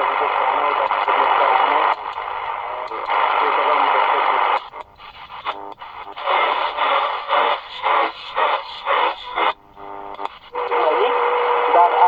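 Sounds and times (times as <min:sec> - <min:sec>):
muffled noisy radio broadcast: 0:00.0 - 0:12.0.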